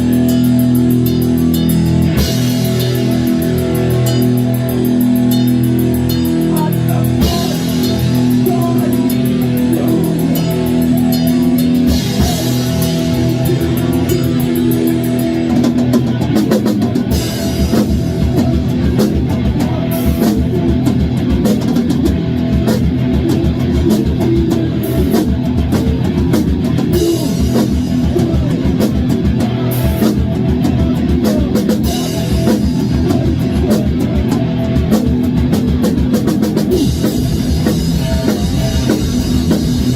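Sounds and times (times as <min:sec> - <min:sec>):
fast driving drum beat: 0:00.0 - 0:39.9
thrash metal band playing live: 0:00.0 - 0:39.9.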